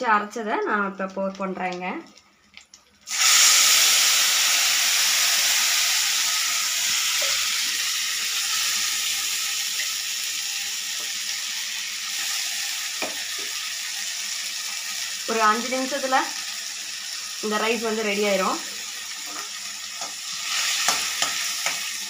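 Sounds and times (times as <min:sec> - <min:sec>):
paste sizzling in hot oil: 0:03.0 - 0:22.0.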